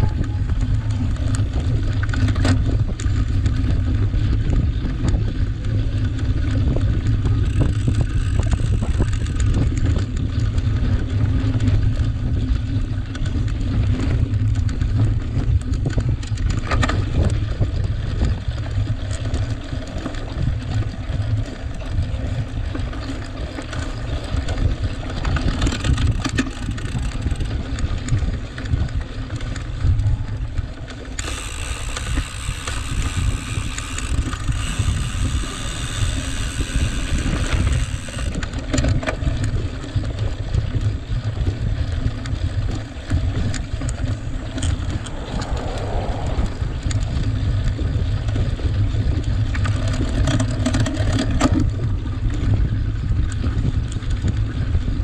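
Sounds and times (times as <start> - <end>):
bike rattle: 0.0 - 55.0
wind noise on microphone: 0.0 - 55.0.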